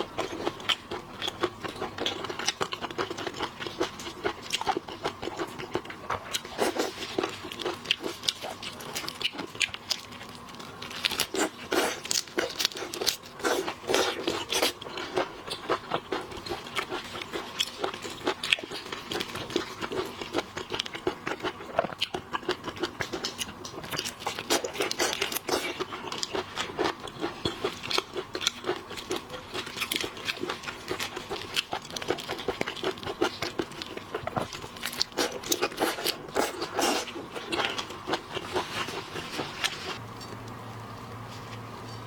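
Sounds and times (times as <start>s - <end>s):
person crunching and chewing seafood: 0.0s - 40.4s.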